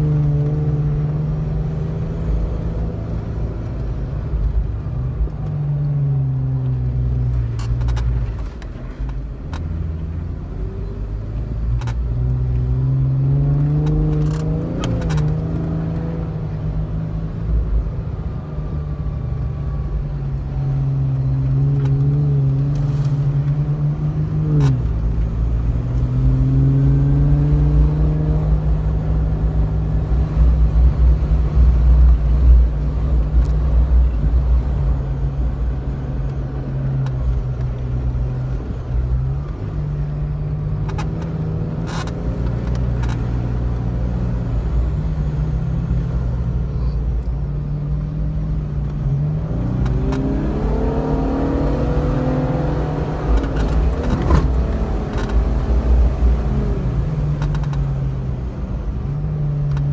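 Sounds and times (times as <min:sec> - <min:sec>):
engine revving inside cabin: 0:09.3 - 0:59.9.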